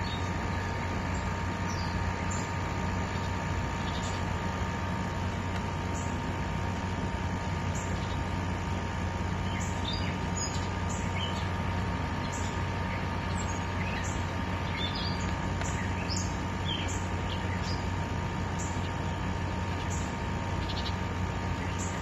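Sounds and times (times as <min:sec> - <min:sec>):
low even hum: 0:00.0 - 0:22.0
small birds chirping: 0:00.0 - 0:22.0.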